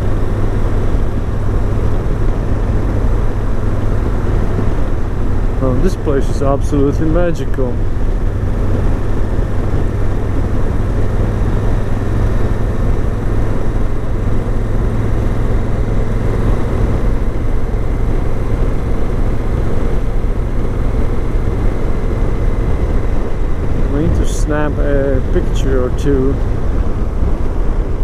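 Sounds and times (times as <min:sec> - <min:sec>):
motorcycle engine cruising: 0:00.0 - 0:28.0
road rumble: 0:00.0 - 0:28.0
wind noise: 0:00.0 - 0:28.0.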